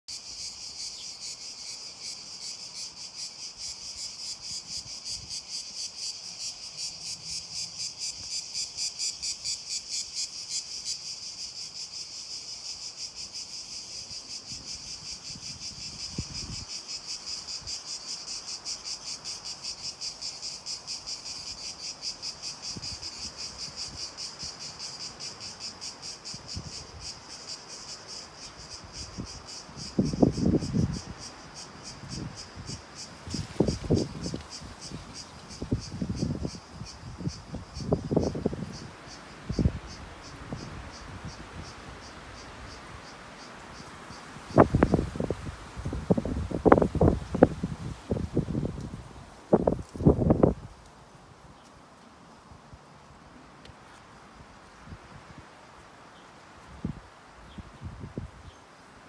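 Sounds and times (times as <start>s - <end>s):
cicadas buzzing: 0.1s - 59.0s.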